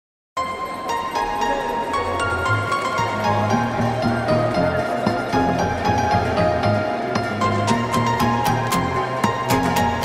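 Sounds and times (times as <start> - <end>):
background music with held notes: 0.4 - 10.0.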